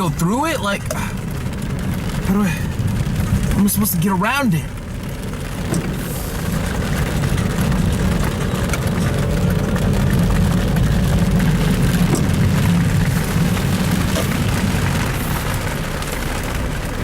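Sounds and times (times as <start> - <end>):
car engine and road rumble: 0.0 - 17.0
rain ticking on car: 0.0 - 17.0.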